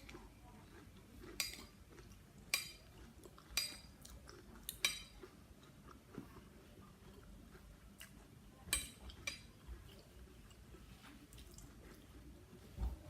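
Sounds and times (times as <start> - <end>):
person chewing: 0.0 - 12.4.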